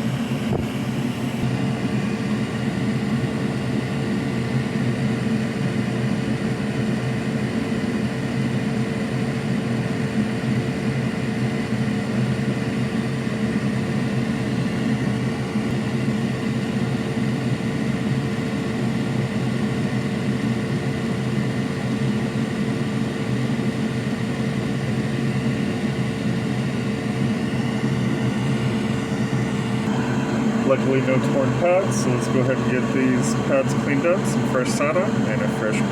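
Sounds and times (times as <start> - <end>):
electric blower fan whirring: 0.0 - 35.9.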